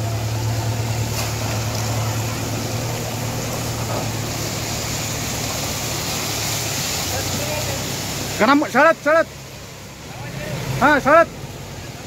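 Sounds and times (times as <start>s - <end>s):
tractor diesel engine humming: 0.0s - 12.0s.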